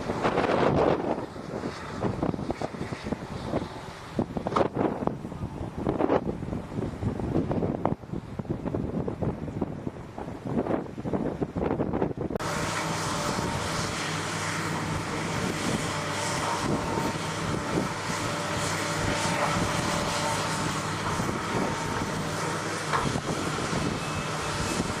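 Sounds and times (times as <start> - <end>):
diesel engine running: 0.0 - 25.0
steady whine: 0.0 - 25.0.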